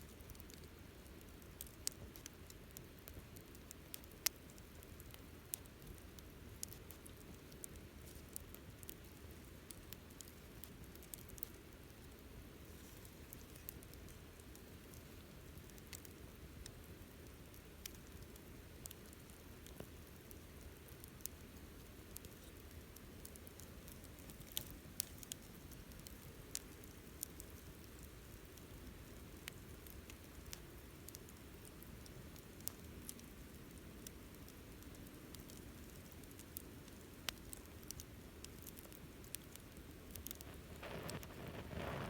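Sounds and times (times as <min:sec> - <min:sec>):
campfire crackling and popping: 0:00.1 - 0:42.0.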